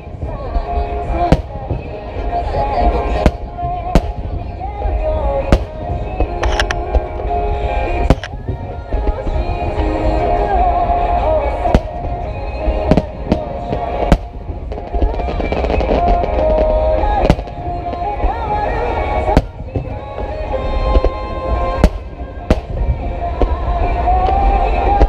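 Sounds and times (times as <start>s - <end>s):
fireworks bangs: 0.0s - 25.0s
low rumble: 0.0s - 25.0s
music playing: 0.0s - 25.0s.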